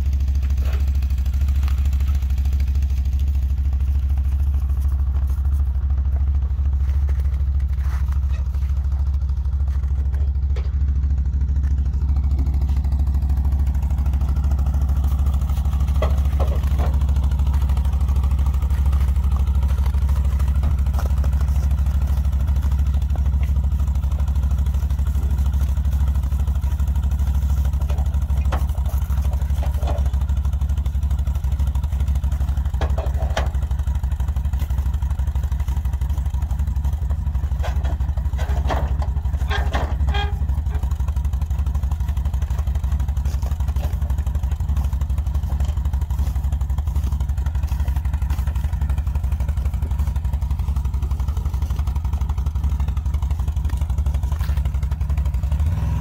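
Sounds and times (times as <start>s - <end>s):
atv engine idling: 0.0s - 56.0s
metal clinks and knocks: 8.2s - 54.9s.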